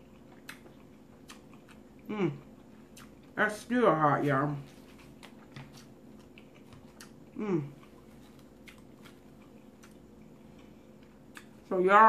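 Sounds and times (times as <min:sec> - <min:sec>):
faint chewing: 0:00.0 - 0:03.4, 0:04.6 - 0:11.7.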